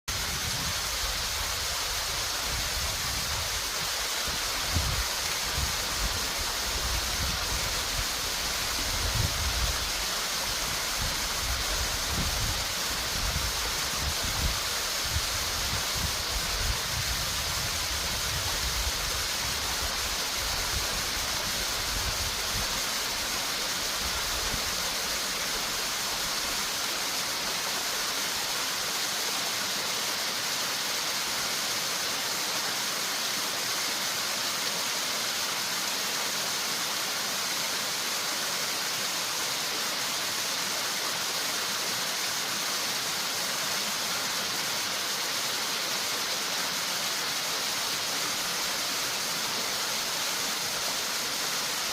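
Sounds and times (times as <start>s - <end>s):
water rushing: 0.1s - 51.9s.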